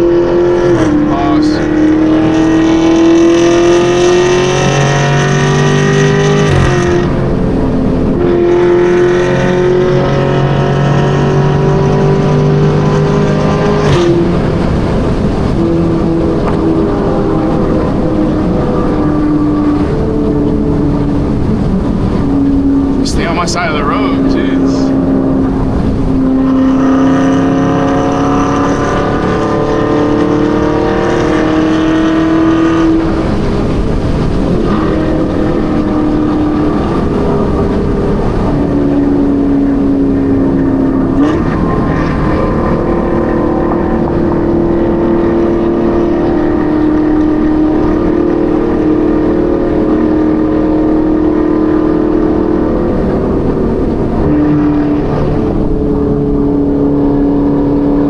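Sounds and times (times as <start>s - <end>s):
car engine accelerating: 0.0s - 58.0s
road and tyre rumble: 0.0s - 58.0s.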